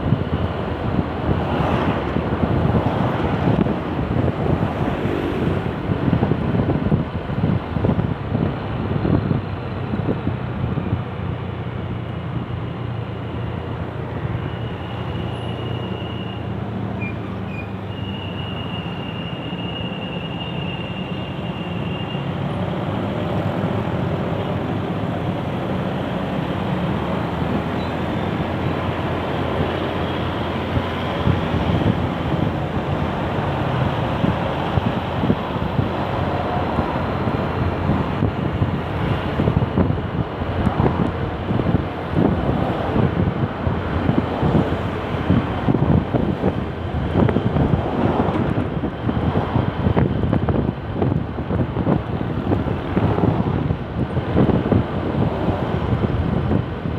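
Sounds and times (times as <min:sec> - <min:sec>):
wind buffeting microphone: 0:00.0 - 0:15.0, 0:20.9 - 0:56.9
road traffic rumble: 0:00.0 - 0:56.9.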